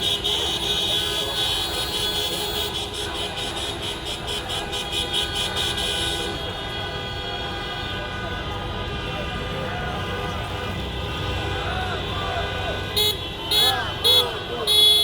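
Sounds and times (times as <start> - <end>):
car horns honking: 0.0 - 15.0.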